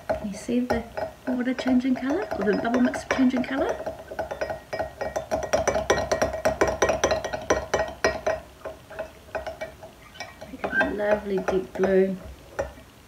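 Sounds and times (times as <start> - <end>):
spoon clinking in glass cup: 0.7 - 12.0.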